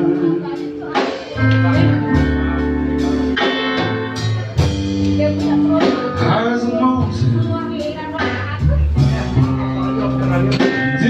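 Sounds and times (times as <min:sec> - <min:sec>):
blues band playing: 0:00.0 - 0:11.0
electric guitar: 0:00.0 - 0:11.0.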